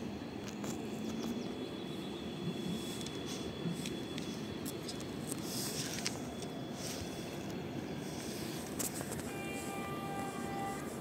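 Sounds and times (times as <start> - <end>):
distant train rumble: 0.0 - 11.0.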